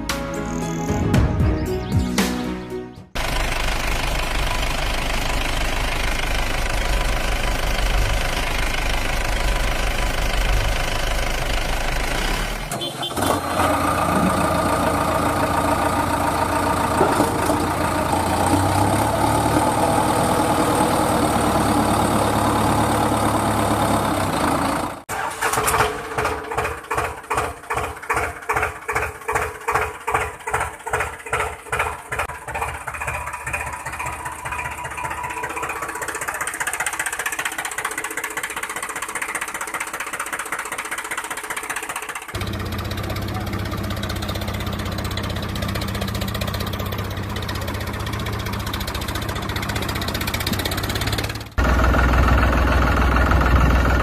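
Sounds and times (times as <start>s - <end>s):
tractor engine running: 0.1s - 54.0s.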